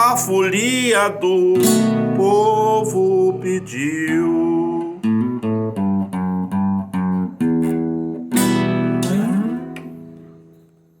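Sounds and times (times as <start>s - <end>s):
guitar picked notes and chords: 0.0s - 11.0s.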